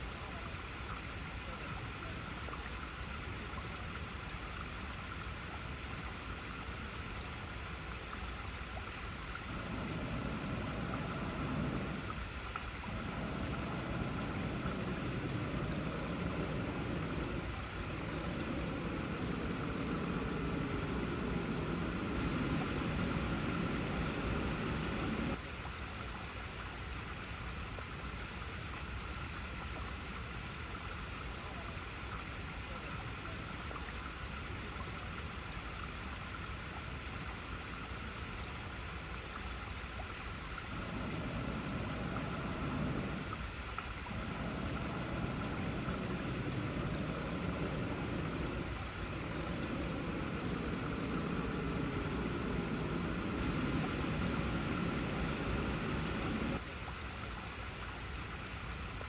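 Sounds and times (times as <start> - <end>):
deeper water rush: 0.0 - 59.0
water splashing over rocks: 0.0 - 59.0.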